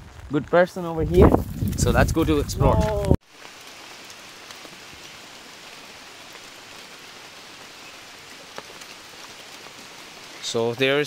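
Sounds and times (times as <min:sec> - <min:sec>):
rain falling: 0:00.0 - 0:11.0
rain ticks: 0:00.1 - 0:11.0.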